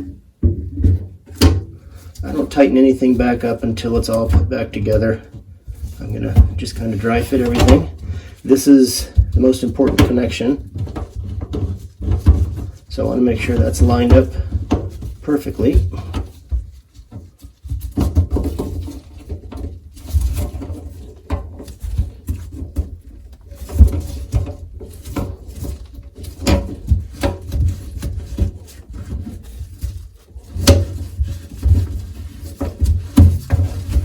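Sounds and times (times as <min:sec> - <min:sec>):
drain pipes knocking and scraping: 0:00.0 - 0:34.0.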